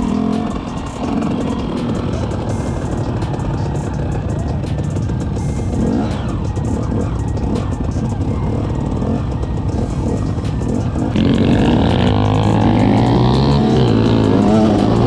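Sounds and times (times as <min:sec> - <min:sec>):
motorcycle and quad engines revving: 0:00.0 - 0:15.0.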